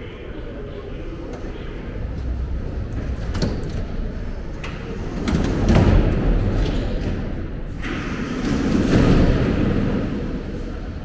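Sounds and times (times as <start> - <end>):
sliding platform doors shutting: 1.2 - 11.0.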